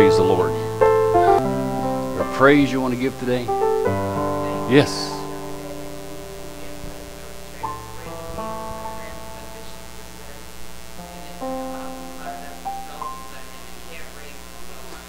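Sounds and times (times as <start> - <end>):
soft instrumental worship music: 0.0 - 15.0.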